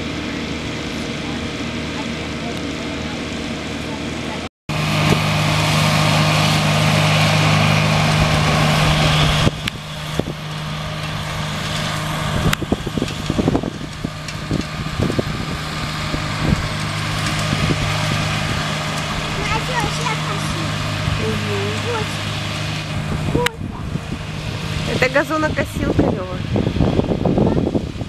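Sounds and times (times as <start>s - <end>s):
ride-on mower engine humming: 0.0s - 28.0s.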